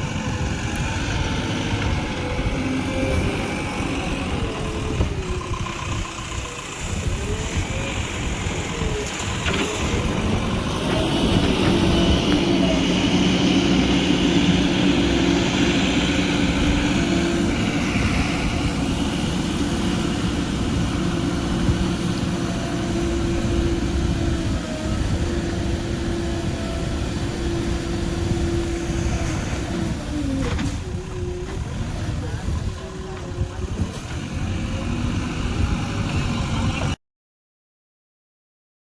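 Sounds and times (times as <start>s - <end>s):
heavy vehicle engine running: 0.0s - 37.0s.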